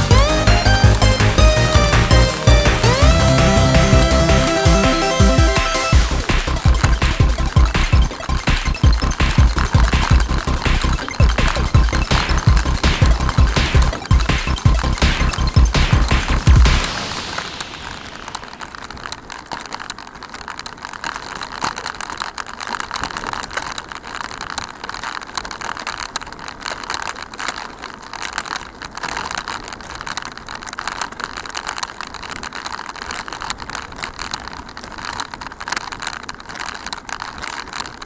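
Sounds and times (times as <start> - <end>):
handcycle rattling on rough asphalt: 6.0 - 38.0.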